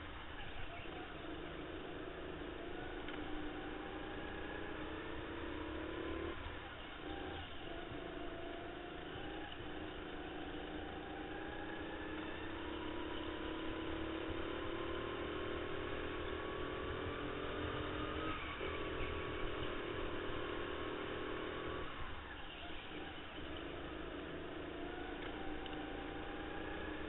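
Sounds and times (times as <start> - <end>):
go-kart motor revving: 0.4 - 27.0.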